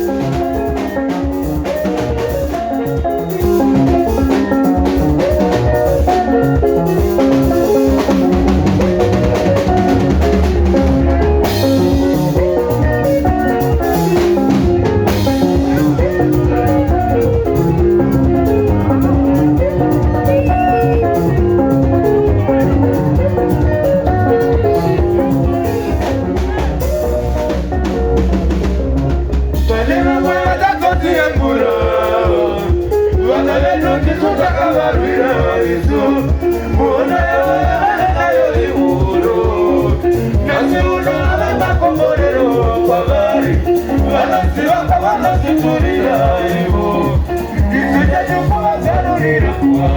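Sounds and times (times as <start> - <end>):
bass: 0.0 - 49.9
drum kit: 0.0 - 49.9
electric guitar lines: 0.0 - 49.9
voices: 0.0 - 49.9.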